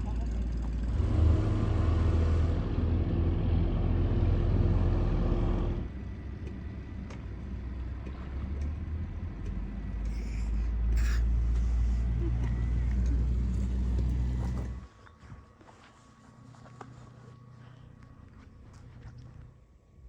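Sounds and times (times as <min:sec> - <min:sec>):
engine droning: 0:00.0 - 0:19.8.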